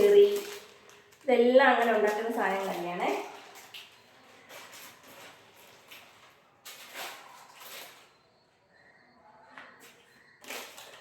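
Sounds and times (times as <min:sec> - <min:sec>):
food packets rustling: 0:00.0 - 0:08.7, 0:09.8 - 0:11.0.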